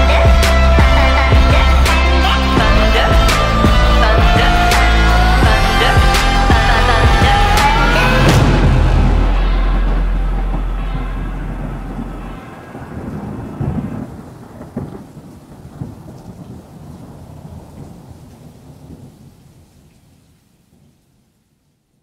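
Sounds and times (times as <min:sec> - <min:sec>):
thunder cracks: 0:00.0 - 0:19.5
thunder rumbling: 0:00.0 - 0:19.9
rain falling: 0:00.0 - 0:22.0.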